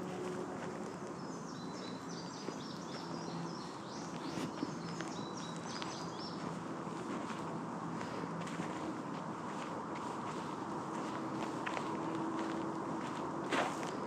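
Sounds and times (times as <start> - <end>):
footsteps on a path: 0.0 - 14.0
songbird singing: 0.0 - 14.0
steady low hum: 0.0 - 14.0.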